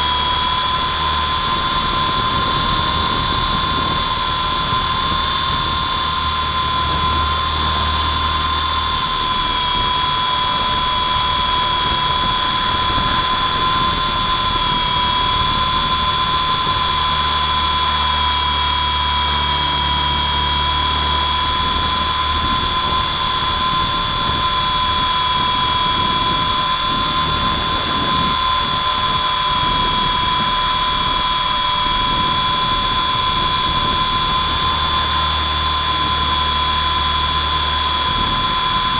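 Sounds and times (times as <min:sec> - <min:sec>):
helicopter motor high whine: 0:00.0 - 0:38.9
low rotor rumble: 0:00.0 - 0:38.9.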